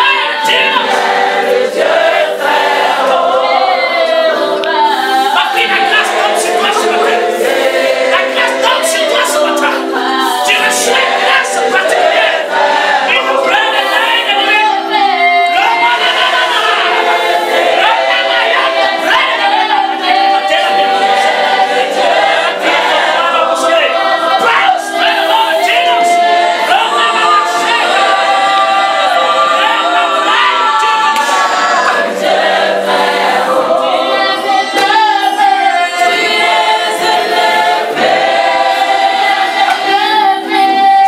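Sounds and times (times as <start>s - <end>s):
choir singing: 0.0s - 41.0s.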